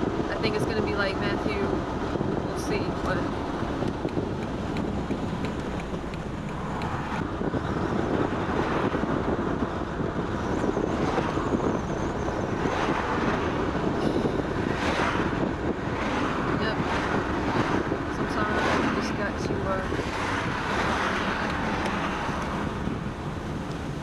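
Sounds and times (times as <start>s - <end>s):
car road and wind noise: 0.0s - 24.0s
oncoming cars passing: 0.0s - 24.0s.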